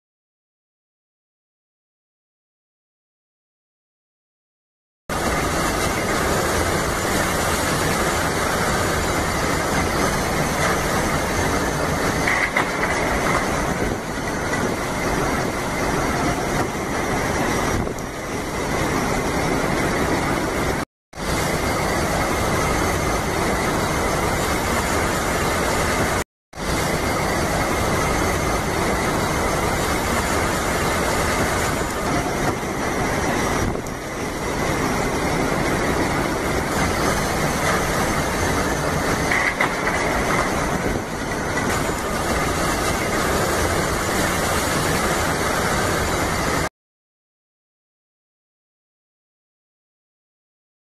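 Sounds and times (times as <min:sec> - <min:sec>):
heavy rain pouring: 0:05.1 - 0:46.7.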